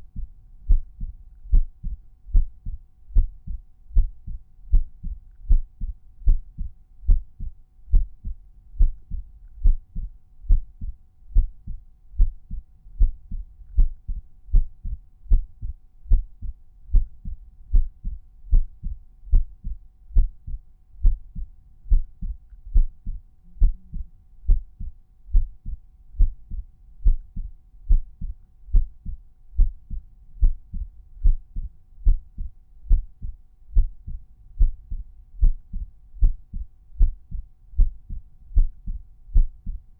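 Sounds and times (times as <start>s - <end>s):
heartbeat through stethoscope: 0.0s - 39.9s.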